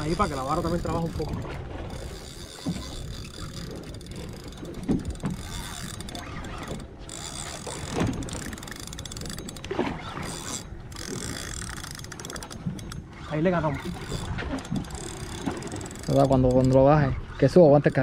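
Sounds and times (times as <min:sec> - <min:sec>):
fishing reel clicking and whirring: 0:00.0 - 0:18.0.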